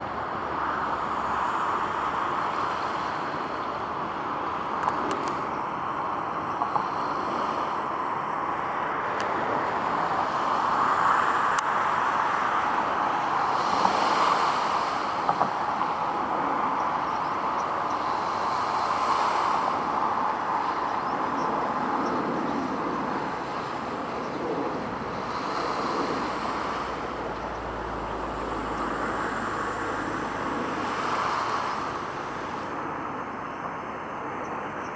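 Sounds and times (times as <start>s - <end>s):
road traffic hiss: 0.0s - 34.9s.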